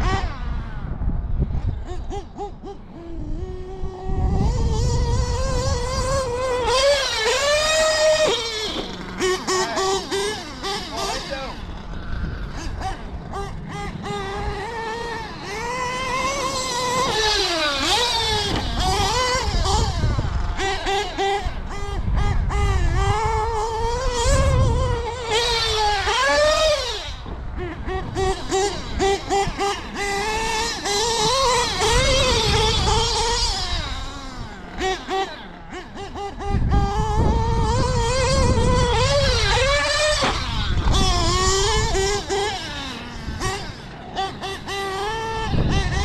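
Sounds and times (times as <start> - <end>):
engine throttle blips: 0.0 - 46.0
model truck engine revving: 0.0 - 46.0.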